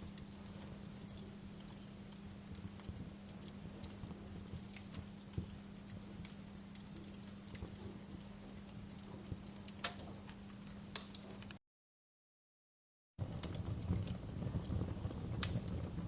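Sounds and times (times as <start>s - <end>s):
wood fire crackling: 0.0s - 11.6s, 13.2s - 16.0s.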